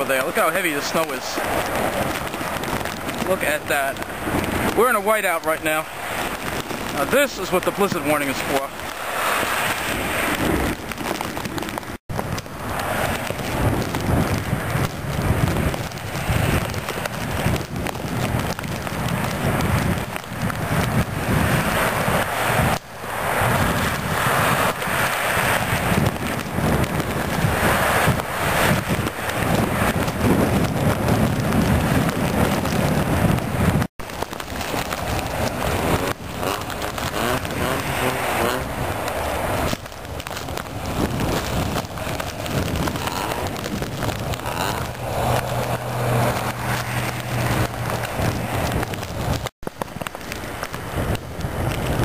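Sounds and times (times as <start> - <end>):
passing road traffic: 0.0 - 52.0
wind gusting against microphone: 0.0 - 52.0
vehicle engine low hum: 8.7 - 52.0.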